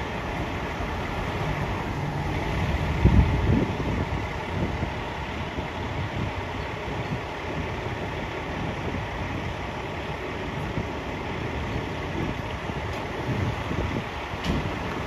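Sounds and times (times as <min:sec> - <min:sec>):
diesel engines idling: 0:00.0 - 0:15.0.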